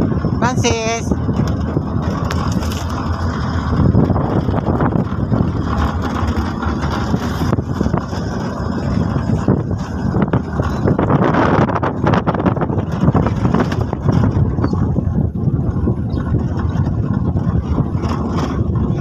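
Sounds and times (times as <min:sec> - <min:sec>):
truck road and engine noise: 0:00.0 - 0:19.0
wind buffeting microphone: 0:00.0 - 0:19.0.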